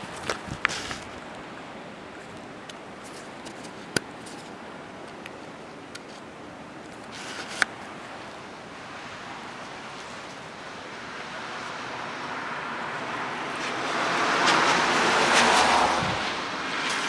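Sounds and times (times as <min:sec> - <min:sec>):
wind and falling snow hiss: 0:00.0 - 0:17.0.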